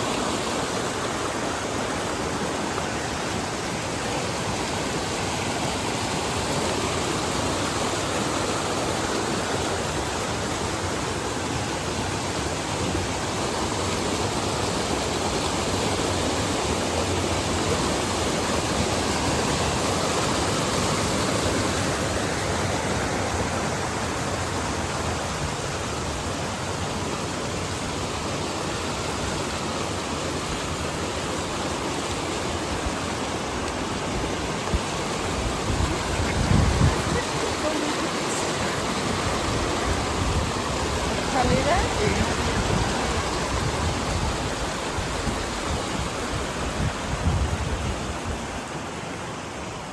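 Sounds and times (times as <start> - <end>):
water rushing: 0.0 - 49.9.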